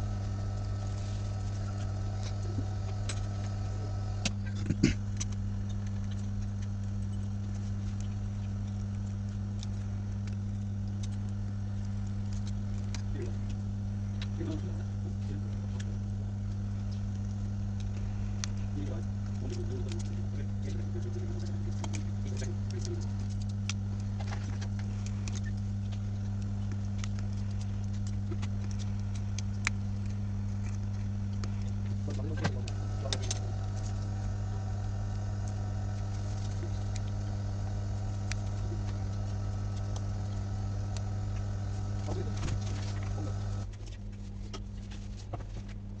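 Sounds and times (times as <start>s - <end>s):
electrical machine hum: 0.0s - 46.0s.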